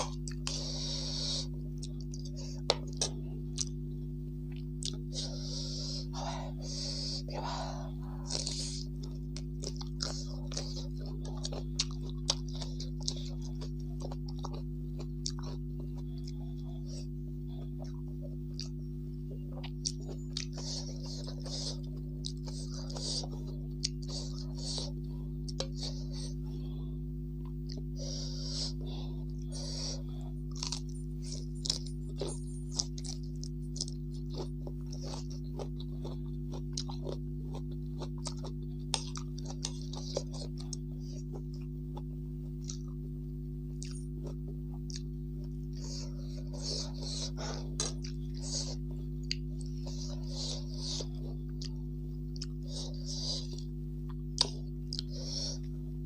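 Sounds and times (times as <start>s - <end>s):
chewing crunchy food: 0.0s - 56.0s
low hum: 0.0s - 56.0s.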